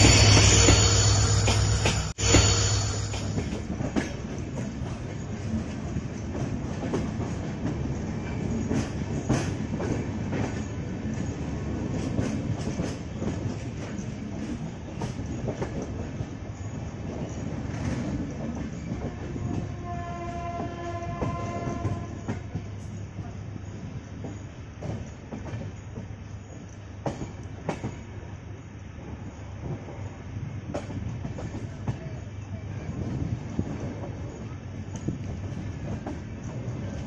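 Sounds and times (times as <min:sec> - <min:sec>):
train rumble: 0:00.0 - 0:37.0.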